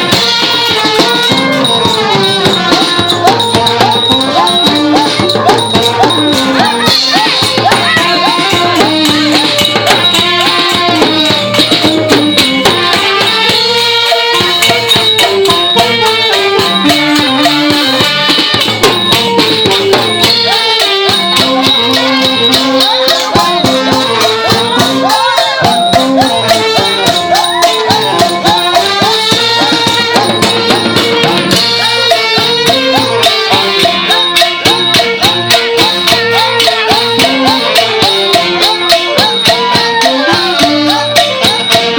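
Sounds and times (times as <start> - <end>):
brass band lead melody: 0.0 - 41.9
rapid percussion with rattling cymbals: 0.0 - 41.9.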